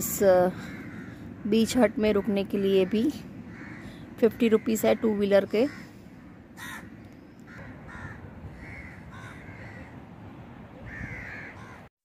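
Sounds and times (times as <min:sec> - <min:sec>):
birds calling: 0:00.0 - 0:10.1, 0:10.8 - 0:11.9
low background rumble: 0:00.0 - 0:11.9.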